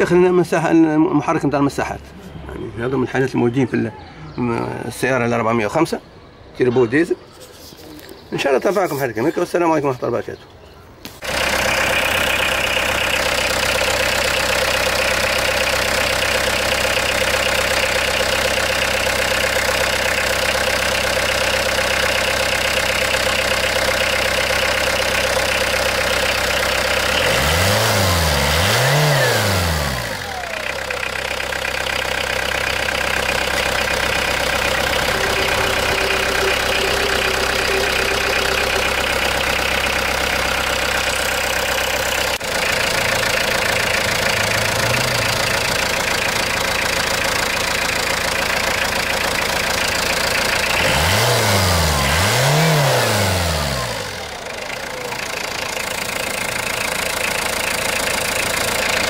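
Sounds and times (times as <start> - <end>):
diesel engine idling and revving: 0.0 - 6.6, 10.9 - 59.0.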